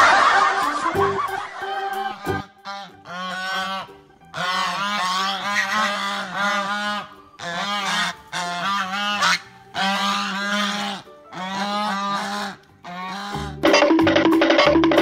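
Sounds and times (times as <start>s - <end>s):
goose honking: 1.8s - 14.2s.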